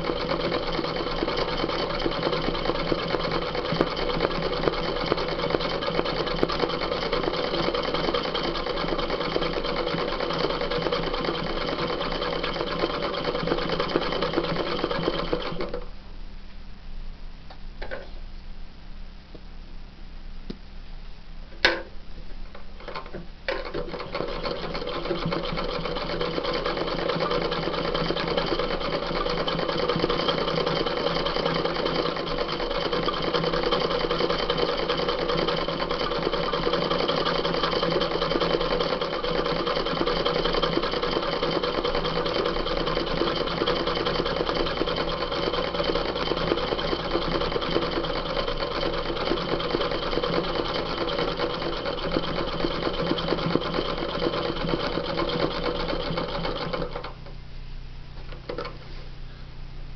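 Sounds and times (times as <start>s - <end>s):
sewing machine stitching: 0.0s - 15.9s, 22.8s - 57.2s.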